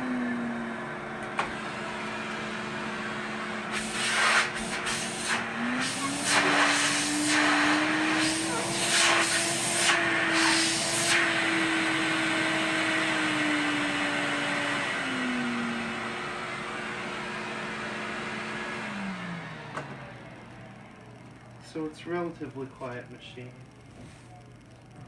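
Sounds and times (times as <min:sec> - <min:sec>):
vacuum cleaner motor whine: 0:00.0 - 0:25.0.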